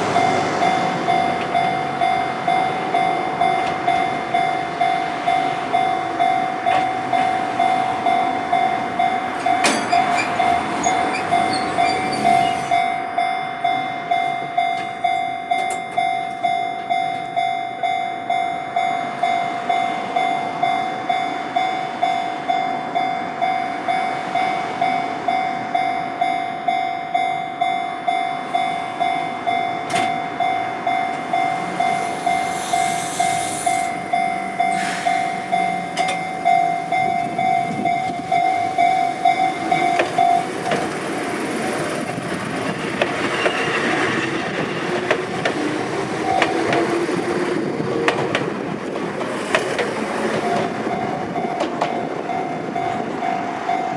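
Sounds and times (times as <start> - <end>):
train wheels clacking on rails: 0.0 - 22.6, 23.4 - 53.9.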